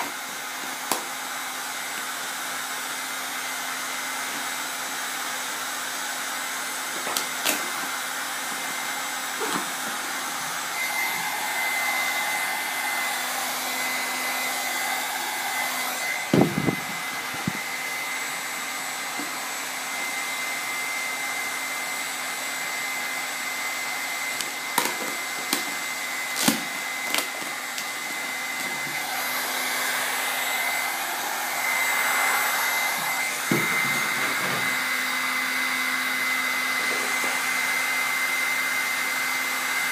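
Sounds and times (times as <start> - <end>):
heat gun blowing: 0.0 - 39.9.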